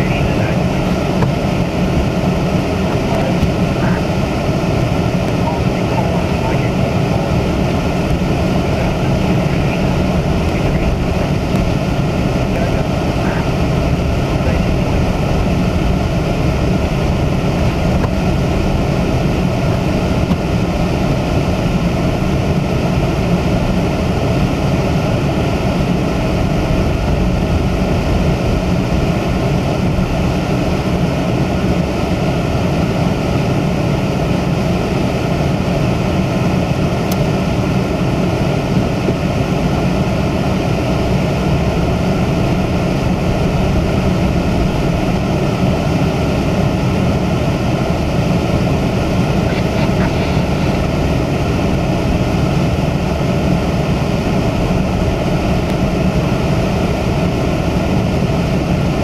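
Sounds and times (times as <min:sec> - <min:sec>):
car interior driving rumble: 0:00.0 - 0:59.0.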